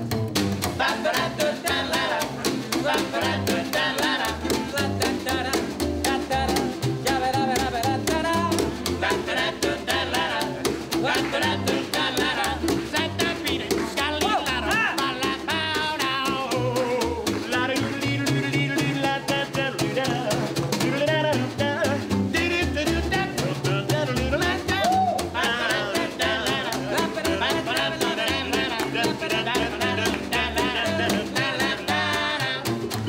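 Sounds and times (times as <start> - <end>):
snare drum played with sticks: 0.0 - 33.0
ukulele strumming: 0.0 - 33.0
upright bass walking: 0.0 - 33.0
person singing: 0.8 - 33.0.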